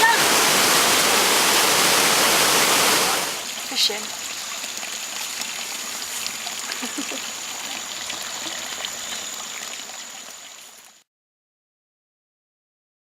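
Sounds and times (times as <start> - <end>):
stream water running: 0.0 - 11.1.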